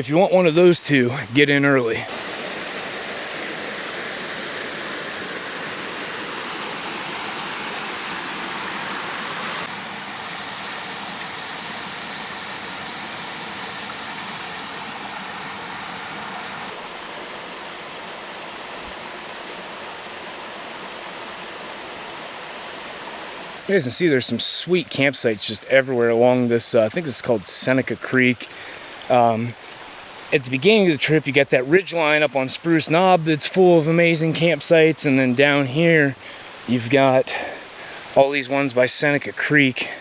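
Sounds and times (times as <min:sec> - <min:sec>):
creek and waterfalls rushing: 0:00.0 - 0:40.0.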